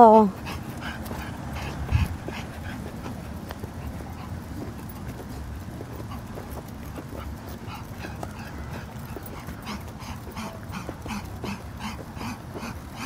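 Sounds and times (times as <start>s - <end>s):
dog panting: 0.1s - 13.0s.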